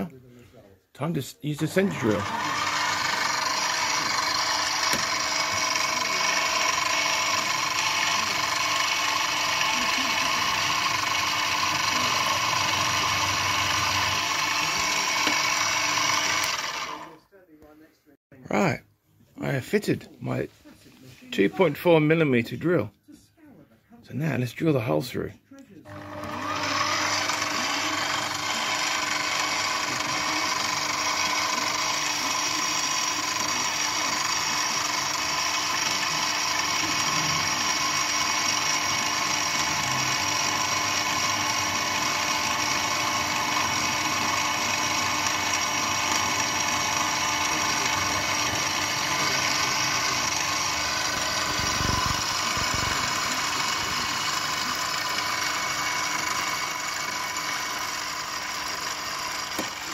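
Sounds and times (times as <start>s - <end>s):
milling machine drilling steel: 1.5s - 17.2s, 25.9s - 59.9s.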